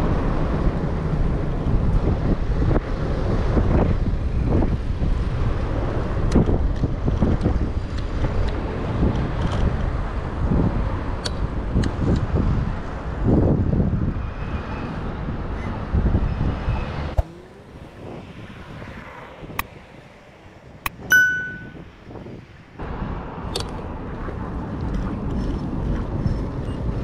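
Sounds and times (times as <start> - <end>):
road traffic: 0.0 - 27.0
wind on microphone: 0.0 - 27.0.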